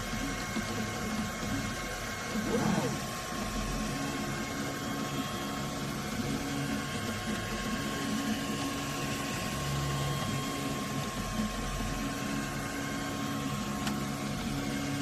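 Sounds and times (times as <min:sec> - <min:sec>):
stepper motors humming: 0:00.1 - 0:15.0.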